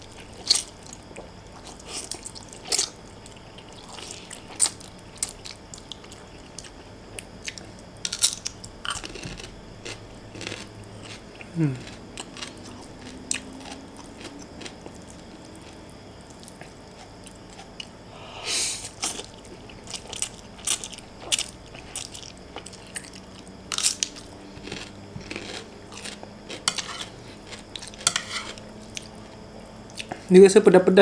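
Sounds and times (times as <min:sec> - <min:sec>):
person chewing noodles: 0:00.0 - 0:18.0, 0:18.6 - 0:30.2.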